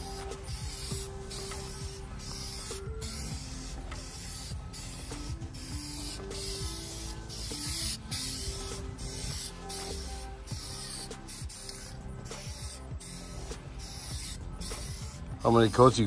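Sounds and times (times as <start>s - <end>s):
spray paint hissing: 0.0s - 16.0s.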